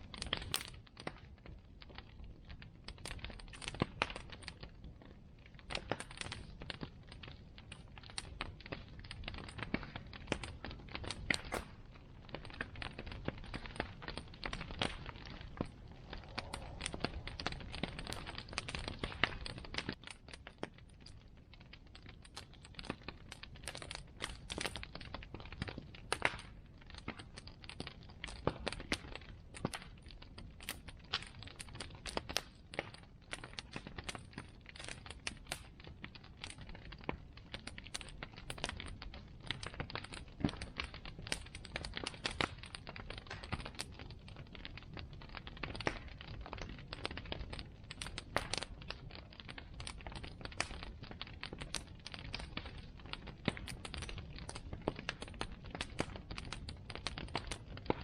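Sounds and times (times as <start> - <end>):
burning wood crackling: 0.0 - 58.0
low rumble of fire: 0.0 - 58.0.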